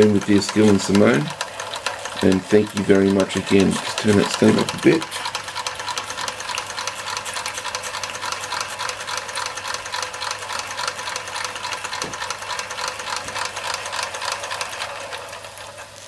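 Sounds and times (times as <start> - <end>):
toy steam engine chuffing: 0.0 - 16.0.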